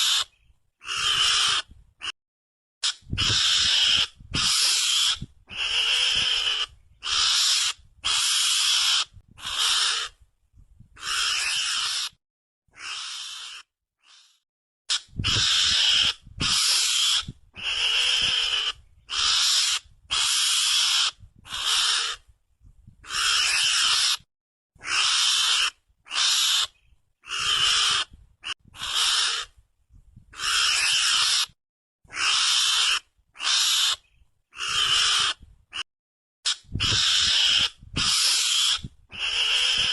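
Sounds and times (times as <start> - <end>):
mongoose harsh scratchy calls: 0.0 - 2.1, 2.8 - 10.2, 11.0 - 22.2, 23.0 - 29.6, 30.3 - 35.8, 36.5 - 39.9.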